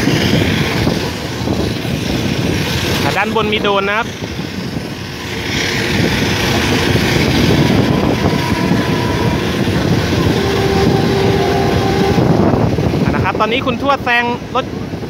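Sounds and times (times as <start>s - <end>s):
train wheels and rushing air: 0.0s - 15.0s.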